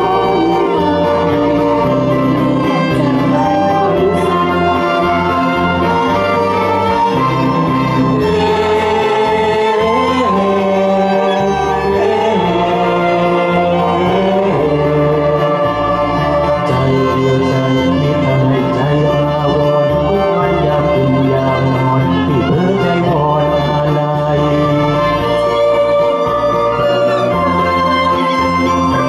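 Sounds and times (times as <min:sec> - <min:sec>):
man and woman singing duet: 0:00.0 - 0:29.0
orchestral karaoke backing track: 0:00.0 - 0:29.0
violin playing: 0:00.0 - 0:29.0.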